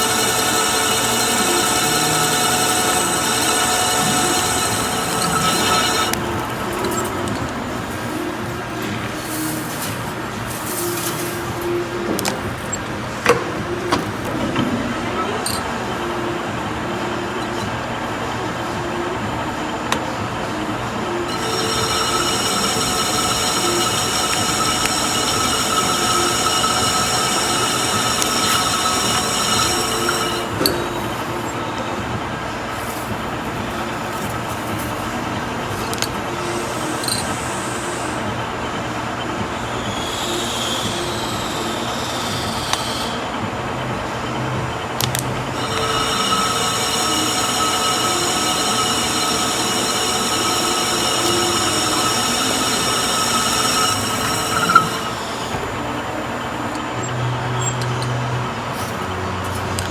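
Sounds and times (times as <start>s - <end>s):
high squeal of cutting steel: 0.0s - 12.9s, 21.2s - 43.9s, 45.0s - 59.9s
machine tool hum: 0.0s - 14.3s, 21.0s - 59.0s.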